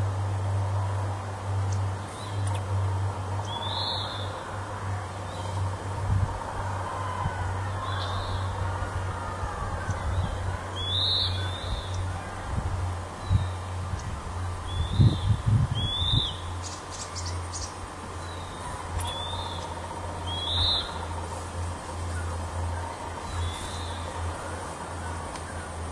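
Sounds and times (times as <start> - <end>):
steady low hum: 0.0 - 25.9
bird calling: 3.4 - 5.6, 6.8 - 25.9.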